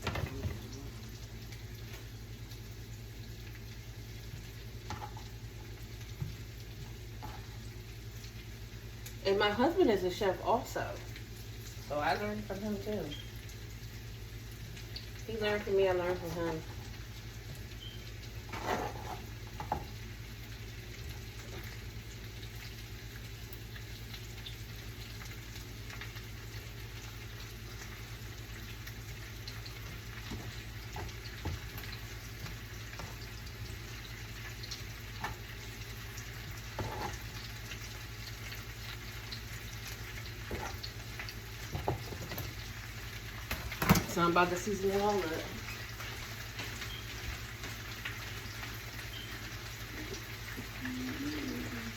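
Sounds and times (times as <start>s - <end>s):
potatoes sizzling in a pan: 0.0s - 51.9s.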